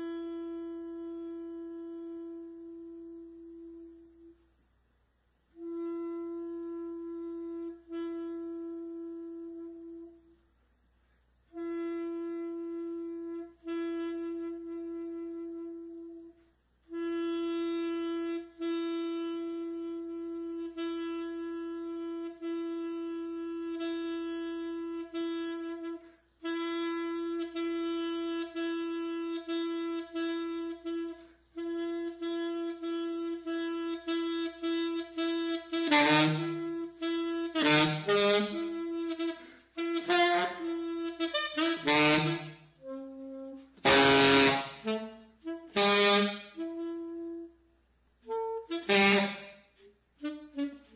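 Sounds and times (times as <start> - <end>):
alto saxophone: 0.0 - 4.7, 5.3 - 50.9.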